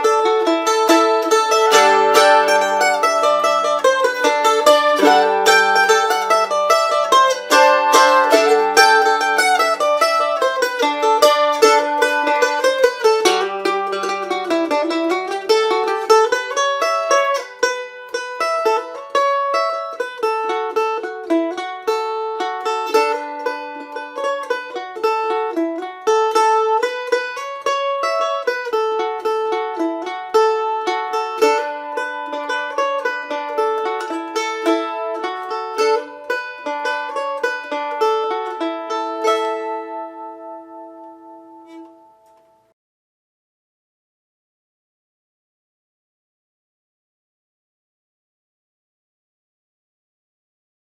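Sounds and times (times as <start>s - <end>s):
mandolin playing fast melody: 0.0s - 42.4s.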